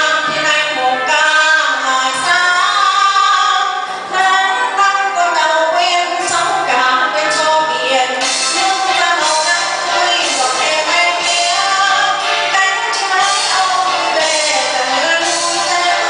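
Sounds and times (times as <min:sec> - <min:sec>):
musical accompaniment: 0:00.0 - 0:16.0
women singing: 0:00.0 - 0:16.0.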